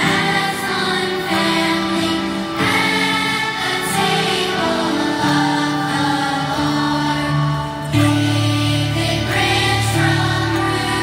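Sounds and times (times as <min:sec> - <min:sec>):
children's choir singing a hymn: 0:00.0 - 0:11.0.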